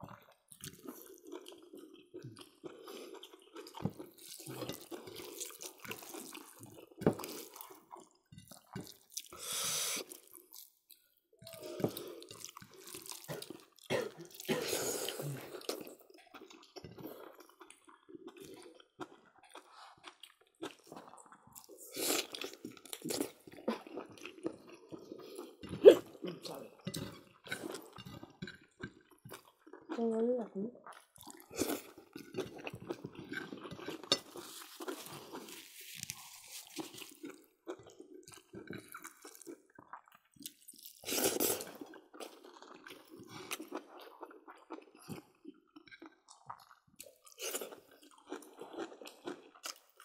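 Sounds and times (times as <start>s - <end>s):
people chewing and lip smacking: 0.0s - 50.0s.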